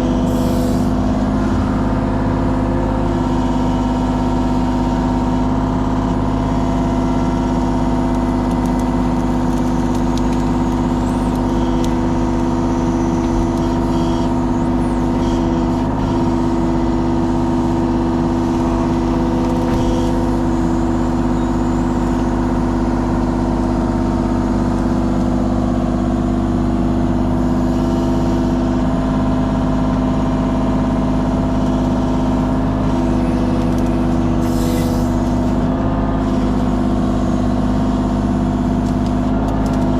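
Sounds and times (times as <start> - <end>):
diesel engine running: 0.0 - 39.9
hydraulics humming: 0.0 - 39.9.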